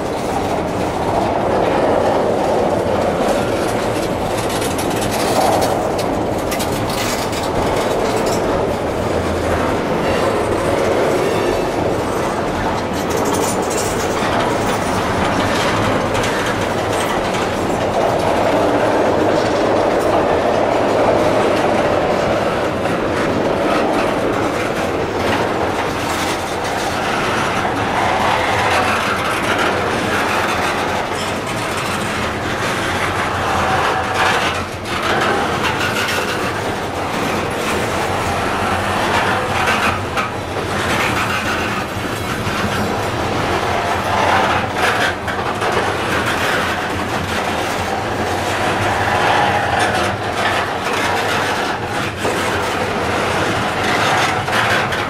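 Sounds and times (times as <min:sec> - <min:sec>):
clacks over rail joints: 0:00.0 - 0:55.0
steel wheels rolling: 0:00.0 - 0:55.0.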